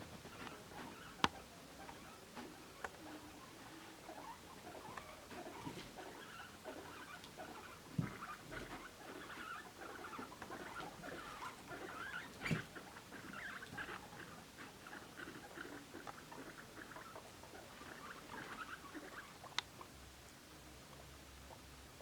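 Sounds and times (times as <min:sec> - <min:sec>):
guinea pigs squeaking: 0:00.0 - 0:20.0.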